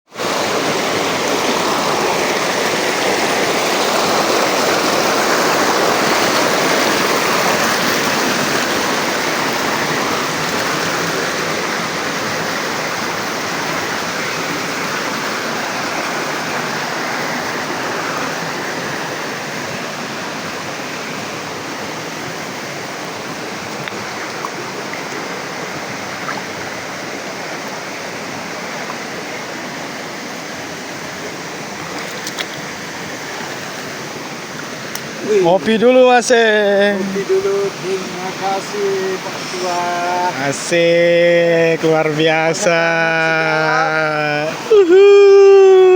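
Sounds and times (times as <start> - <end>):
water rushing: 0.1 - 45.9.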